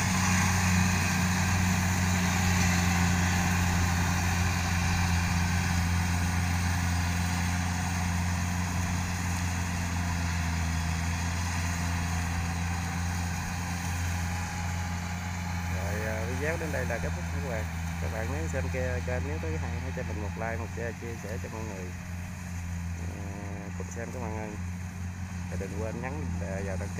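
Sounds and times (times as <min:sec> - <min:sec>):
combine harvester engine running: 0:00.0 - 0:26.9.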